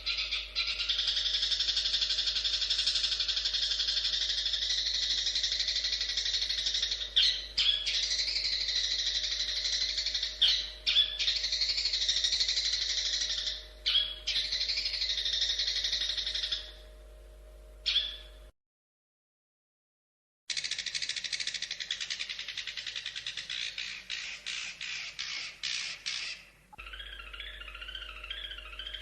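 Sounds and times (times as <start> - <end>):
bird chattering song: 0.0 - 16.8, 17.8 - 18.4, 20.5 - 29.0
bird call notes: 0.0 - 16.9, 20.5 - 29.0.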